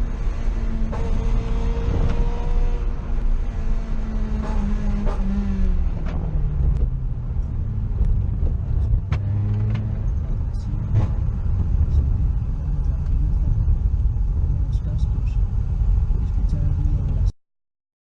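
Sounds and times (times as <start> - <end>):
car engine running: 0.0 - 17.3.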